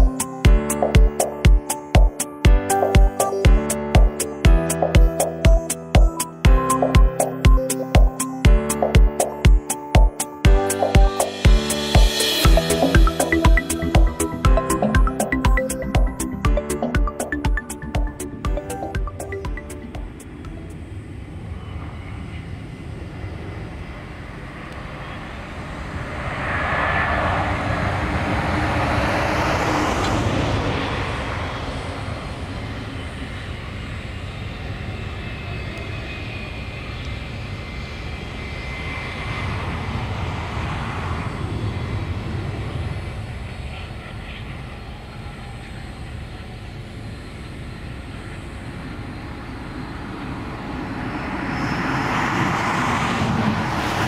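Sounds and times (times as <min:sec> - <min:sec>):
jet engines passing: 0:00.0 - 0:54.0.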